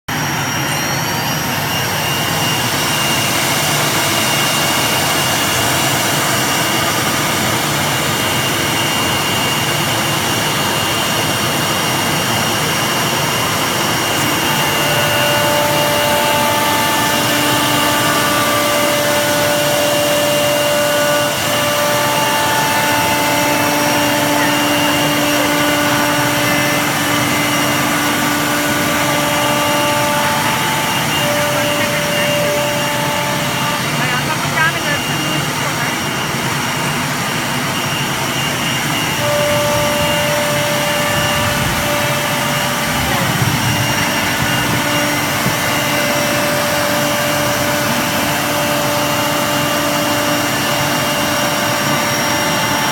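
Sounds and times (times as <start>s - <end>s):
cnc wood router running: 0.0s - 52.9s
high spindle whine: 0.0s - 52.9s.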